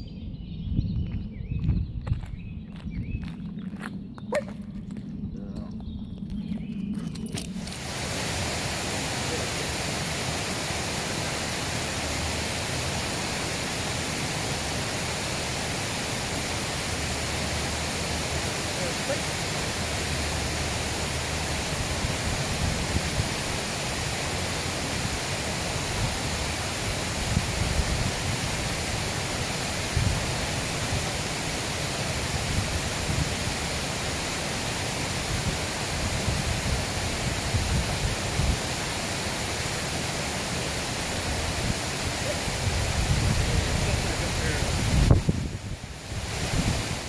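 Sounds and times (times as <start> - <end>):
wind rumble on microphone: 0.0 - 18.9, 19.7 - 39.8, 40.8 - 47.0
stream water running over rocks: 7.1 - 47.0.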